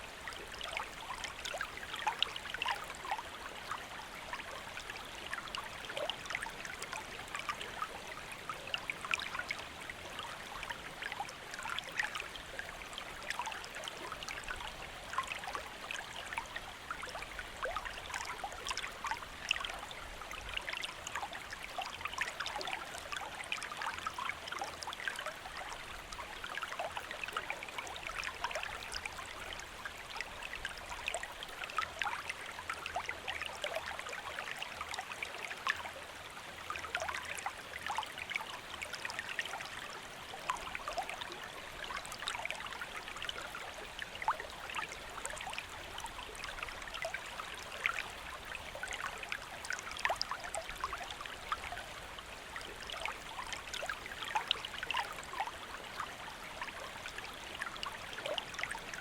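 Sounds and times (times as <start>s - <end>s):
shallow stream flowing: 0.0s - 59.0s.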